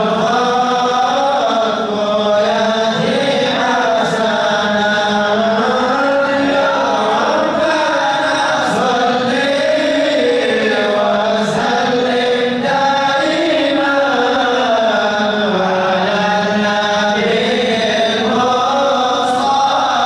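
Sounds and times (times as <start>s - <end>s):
men chanting into a microphone: 0.0s - 20.0s.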